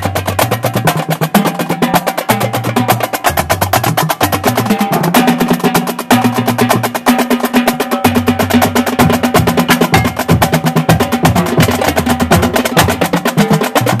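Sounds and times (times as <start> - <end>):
pitched drums: 0.0 - 14.0
rapid snare drum strokes: 0.0 - 14.0.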